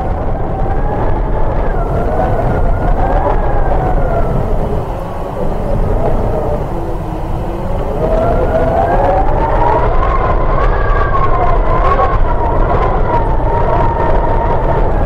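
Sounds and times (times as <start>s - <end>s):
drone propellers whining: 0.0s - 15.0s
wind rumble on microphone: 0.0s - 15.0s.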